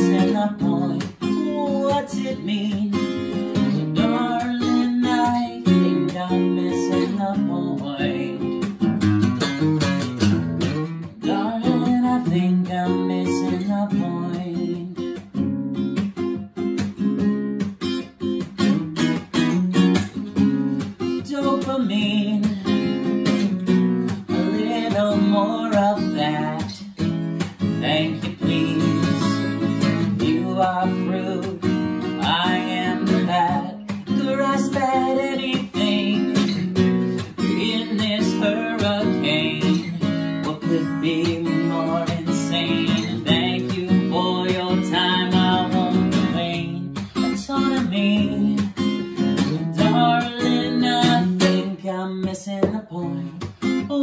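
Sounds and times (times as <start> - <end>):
man singing: 0.0 - 8.9, 11.0 - 15.3, 20.8 - 54.0
acoustic guitar strumming: 0.0 - 54.0.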